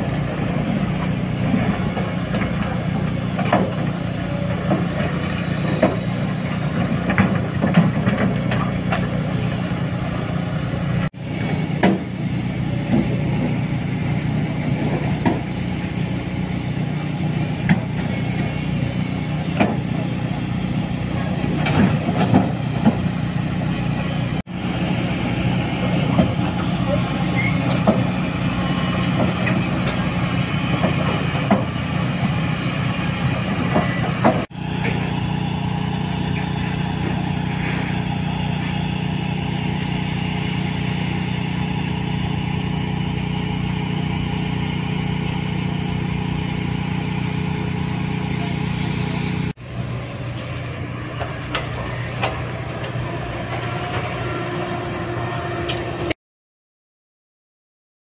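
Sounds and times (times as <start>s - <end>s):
heavy diesel engines humming: 0.0s - 56.2s.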